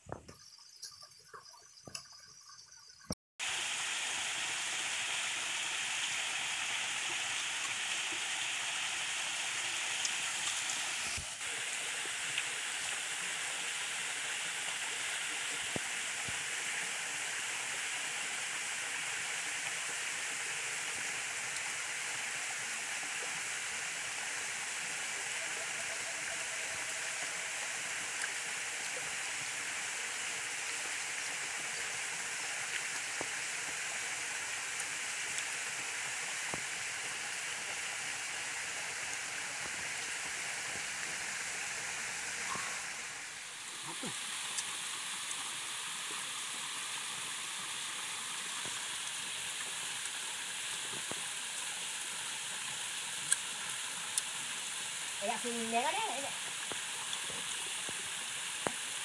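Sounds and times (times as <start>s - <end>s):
rushing water of waterfall: 3.4s - 59.0s.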